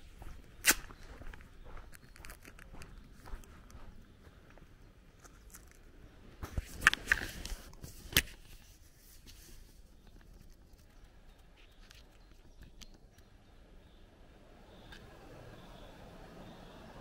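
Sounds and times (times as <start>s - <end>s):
outdoor ambience: 0.0s - 17.0s.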